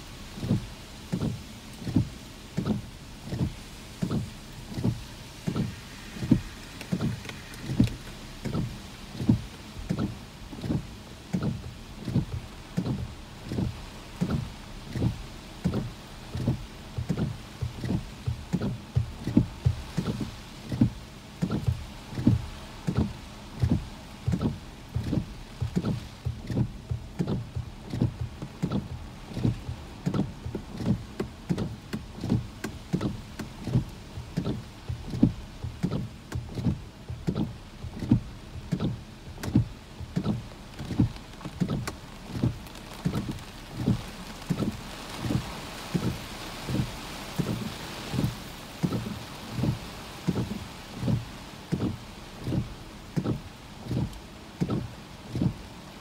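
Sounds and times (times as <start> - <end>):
faint rain: 0.0 - 56.0
windshield wipers thumping: 0.3 - 56.0.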